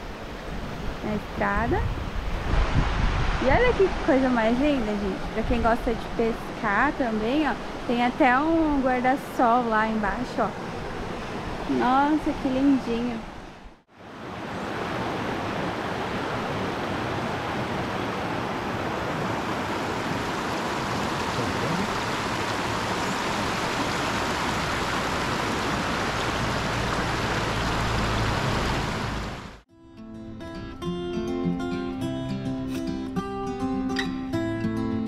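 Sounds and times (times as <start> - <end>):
rushing river water: 0.0 - 29.6.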